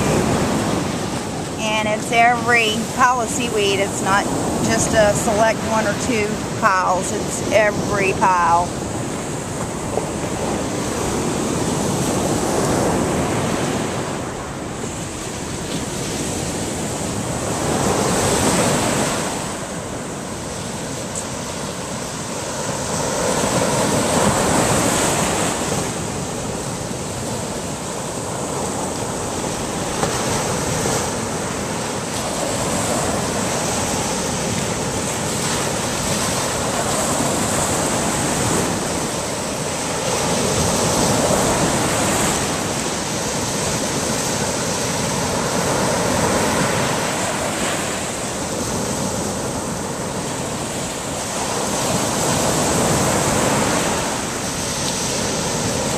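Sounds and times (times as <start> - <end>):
surf breaking on beach: 0.0 - 55.9.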